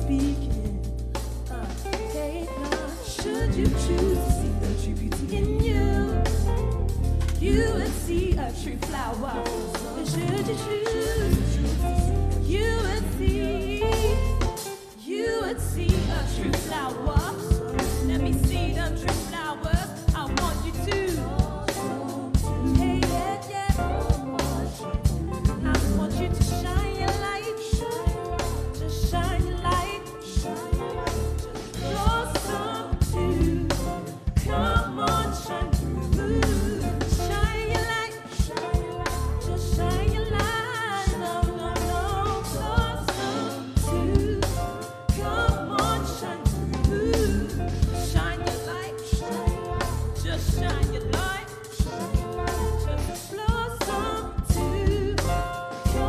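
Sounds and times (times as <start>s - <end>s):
soul band playing: 0.0s - 56.0s
woman singing: 0.0s - 56.0s.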